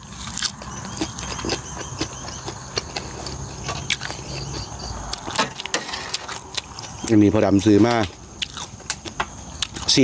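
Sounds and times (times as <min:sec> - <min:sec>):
person chewing: 0:00.0 - 0:07.2, 0:07.9 - 0:10.0.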